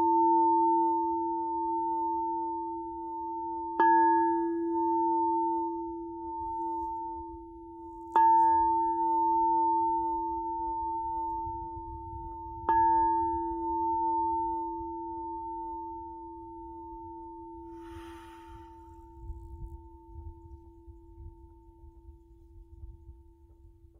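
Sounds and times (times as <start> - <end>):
singing bowl ringing hum: 0.0 - 23.9.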